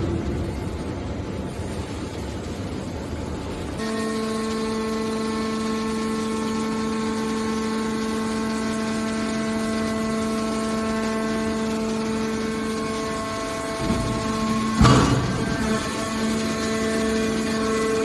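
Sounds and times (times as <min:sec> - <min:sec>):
hydraulic baler humming: 0:00.0 - 0:18.0.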